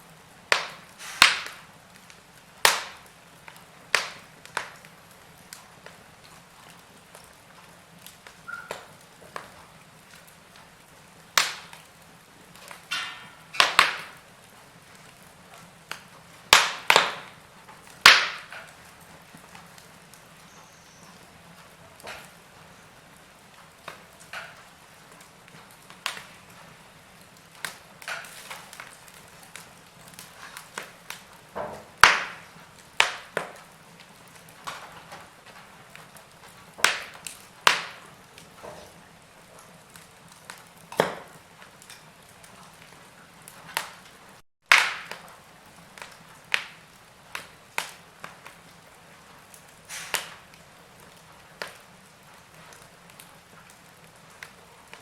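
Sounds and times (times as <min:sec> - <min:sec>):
faint steady hiss: 0:00.0 - 0:55.0
log fire crackling: 0:00.0 - 0:55.0.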